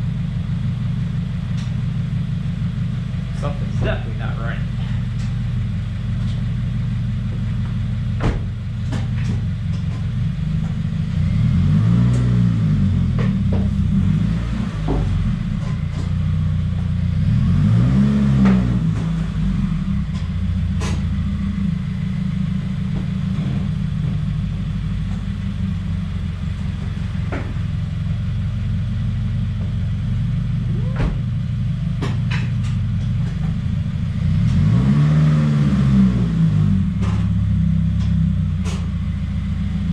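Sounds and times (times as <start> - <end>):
car engine revving: 2.4 - 39.9.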